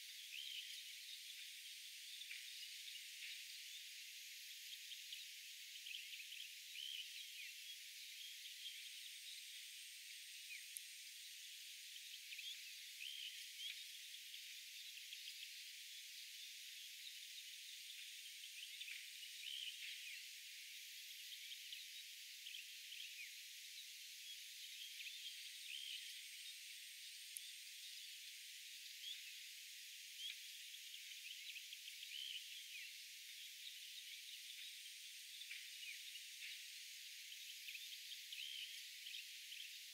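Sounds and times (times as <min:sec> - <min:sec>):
wildlife chirps: 0:00.0 - 0:39.9.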